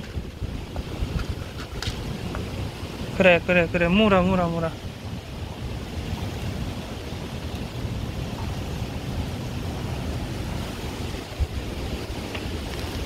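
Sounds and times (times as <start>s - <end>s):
wind howling on microphone: 0.0s - 13.0s.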